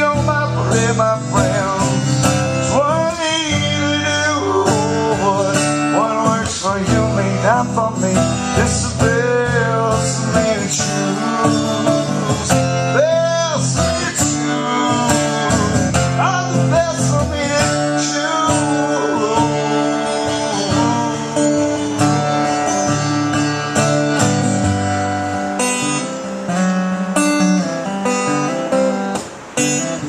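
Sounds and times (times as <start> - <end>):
country band instrumental: 0.0 - 30.0
guitar bending notes: 0.0 - 30.0.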